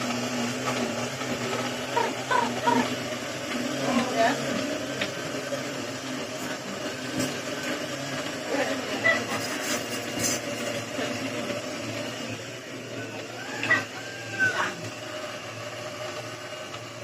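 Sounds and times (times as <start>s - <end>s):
electric blender running: 0.0s - 17.0s.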